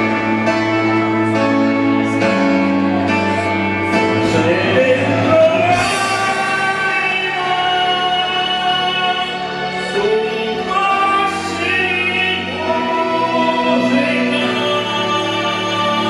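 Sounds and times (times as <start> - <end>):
instrumental backing track: 0.0 - 16.0
man singing into microphone: 2.0 - 16.0.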